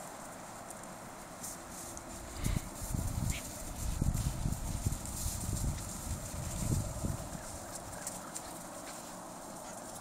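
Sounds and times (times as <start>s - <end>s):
footsteps in deep snow: 1.3s - 10.0s.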